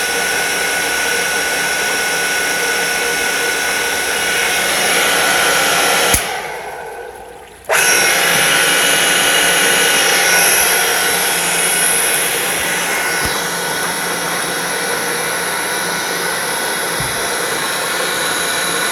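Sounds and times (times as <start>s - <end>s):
pump motor hum and whine: 0.0s - 18.9s.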